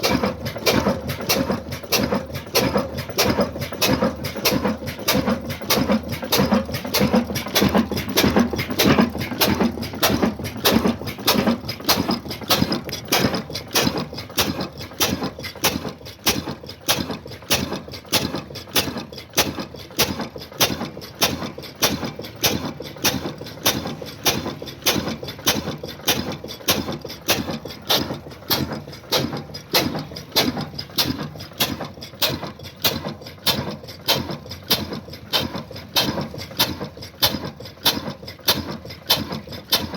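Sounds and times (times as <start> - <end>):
diesel engine running slow beat: 0.0 - 39.9.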